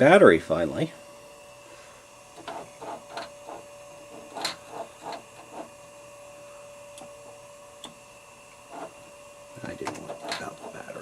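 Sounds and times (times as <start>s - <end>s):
computer hum: 0.0s - 11.0s.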